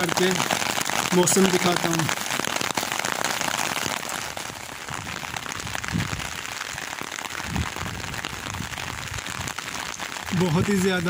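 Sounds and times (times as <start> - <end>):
heavy rain: 0.0 - 11.0
raindrops pattering on umbrella: 0.0 - 11.0.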